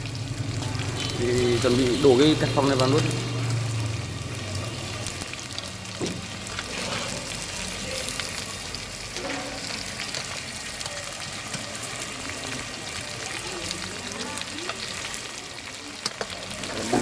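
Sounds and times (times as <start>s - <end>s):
prawns sizzling in hot oil: 0.0s - 17.0s.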